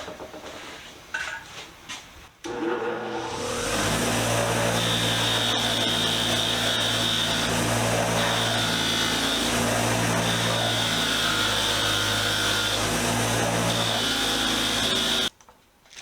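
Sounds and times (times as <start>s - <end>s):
wire wheel motor running: 2.5s - 15.3s.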